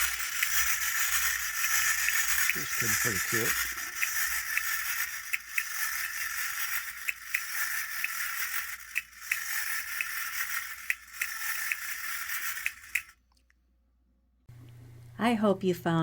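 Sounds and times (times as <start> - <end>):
clockwork toy whirring: 0.0 - 13.2
sharp irregular clicks: 0.0 - 13.2.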